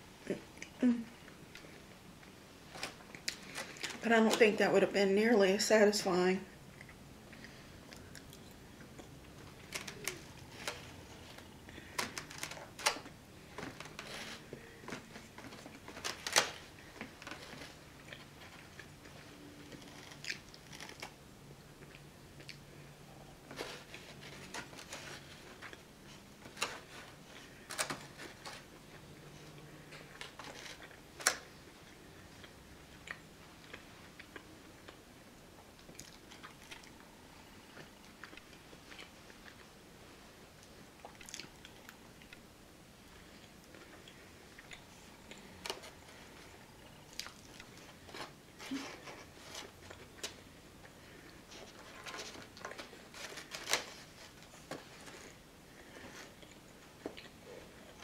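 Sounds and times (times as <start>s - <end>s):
person chewing food: 6.6s - 16.1s, 16.7s - 27.6s, 28.2s - 39.8s, 40.6s - 42.5s, 43.1s - 53.1s, 54.4s - 58.0s.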